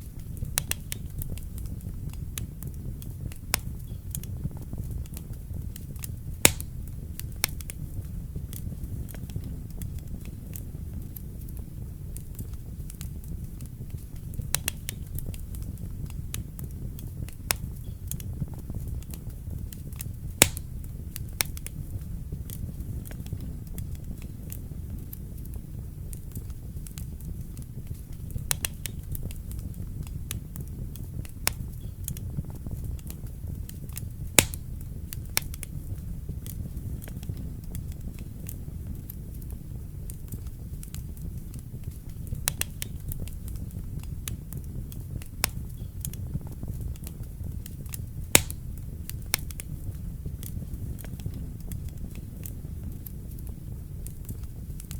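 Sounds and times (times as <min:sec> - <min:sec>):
fire crackles and pops: 0:00.0 - 0:54.9
fire flames rumbling: 0:00.0 - 0:54.9.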